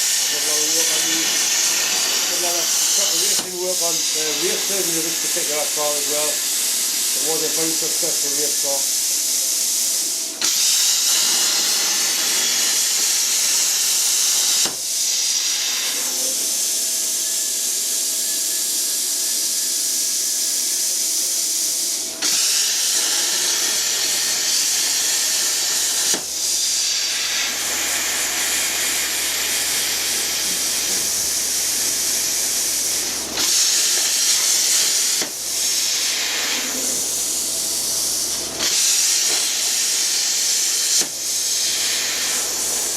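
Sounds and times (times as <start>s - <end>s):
plasma cutter hissing: 0.0s - 42.9s.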